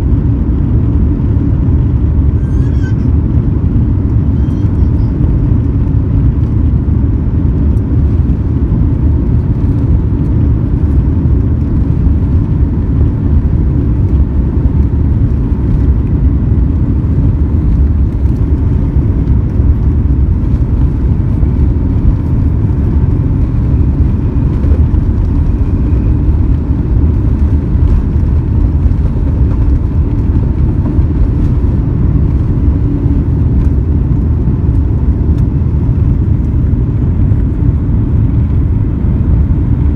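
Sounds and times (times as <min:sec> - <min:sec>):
jet engines and rushing air rumble: 0:00.0 - 0:39.9.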